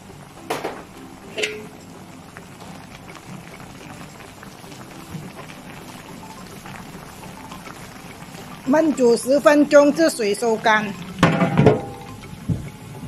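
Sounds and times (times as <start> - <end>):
pot bubbling: 0.0 - 13.0.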